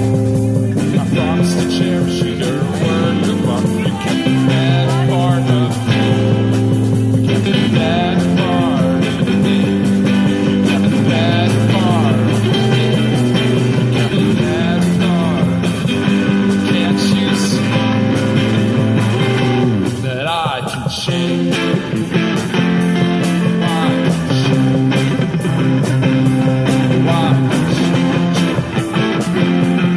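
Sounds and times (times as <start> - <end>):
bucket drum beat: 0.0 - 29.9
strummed guitar: 0.0 - 29.9.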